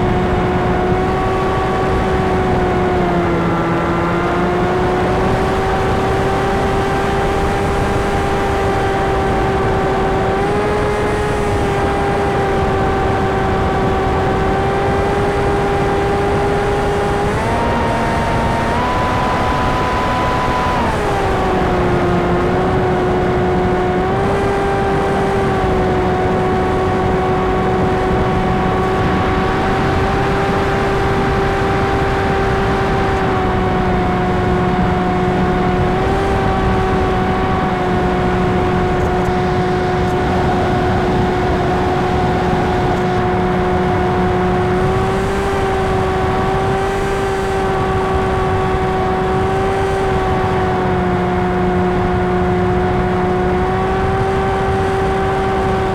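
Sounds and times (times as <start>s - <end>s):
electric motor whine: 0.0s - 55.9s.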